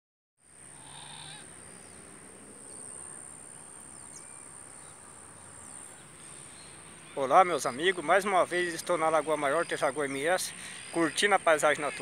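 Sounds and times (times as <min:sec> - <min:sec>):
faint bird calls: 0:00.5 - 0:02.0, 0:02.6 - 0:12.0.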